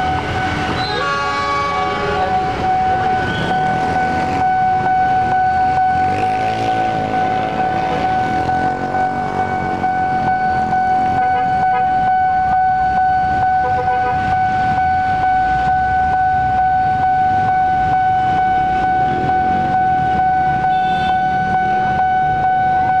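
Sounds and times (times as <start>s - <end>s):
level crossing warning tone: 0.0s - 23.0s.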